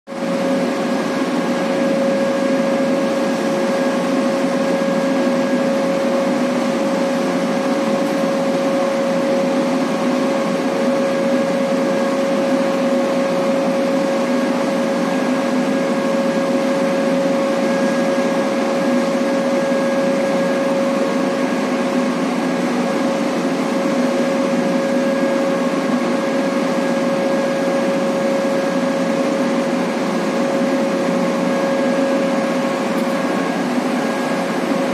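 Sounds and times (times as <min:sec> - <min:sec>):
machinery humming with whine: 0:00.1 - 0:34.9.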